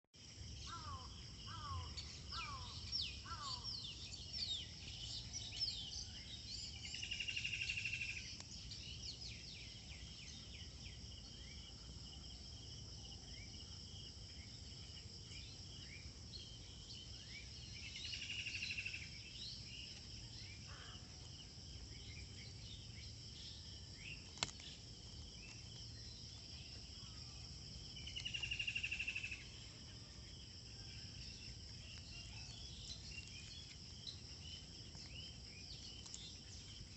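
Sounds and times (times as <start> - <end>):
insects droning: 0.2 - 36.9.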